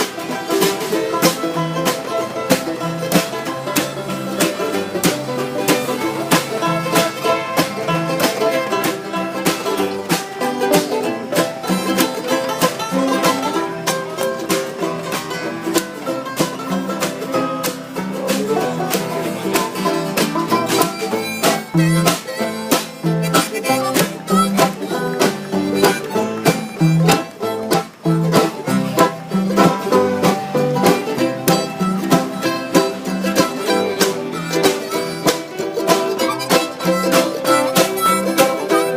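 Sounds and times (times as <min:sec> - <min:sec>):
banjo picking: 0:00.0 - 0:38.9
guitar picking: 0:00.0 - 0:38.9
plucked bass line: 0:00.0 - 0:38.9.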